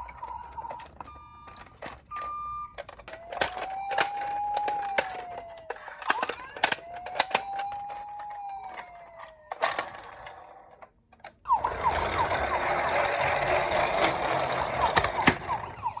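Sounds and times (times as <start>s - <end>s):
emergency vehicle wail siren: 2.2s - 10.7s, 11.4s - 16.0s.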